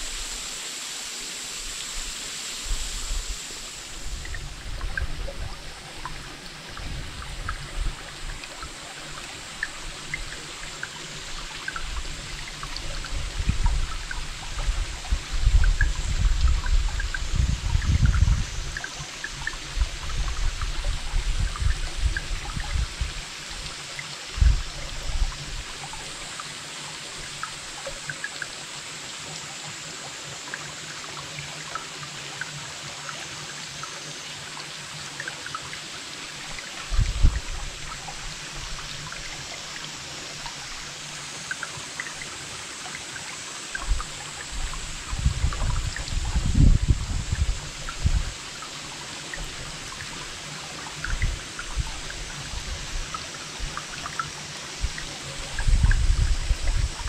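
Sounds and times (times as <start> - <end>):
creek trickling over rocks: 0.0 - 57.0.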